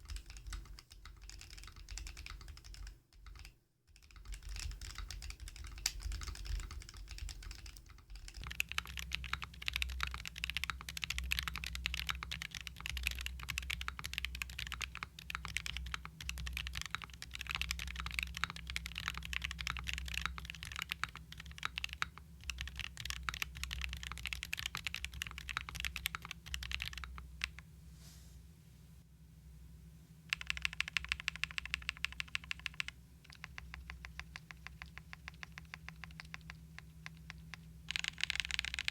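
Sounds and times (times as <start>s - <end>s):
mechanical keyboard typing clatter: 0.0s - 27.6s, 30.3s - 38.9s.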